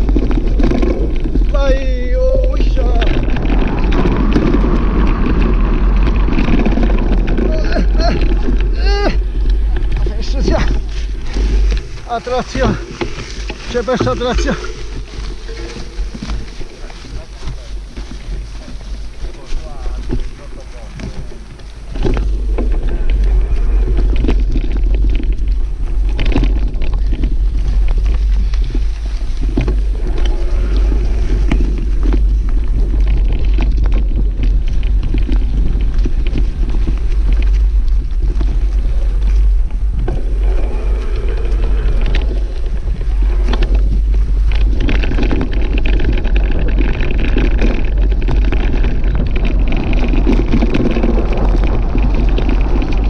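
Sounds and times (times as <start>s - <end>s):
bike knocks and rattles: 0.0s - 53.0s
wind buffeting microphone: 0.0s - 53.0s.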